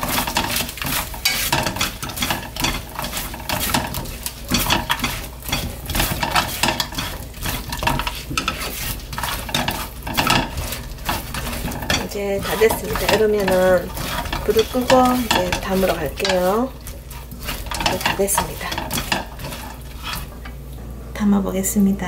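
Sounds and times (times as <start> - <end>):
spatula scraping frying pan: 0.0 - 20.6
sauce sizzling: 0.0 - 20.7.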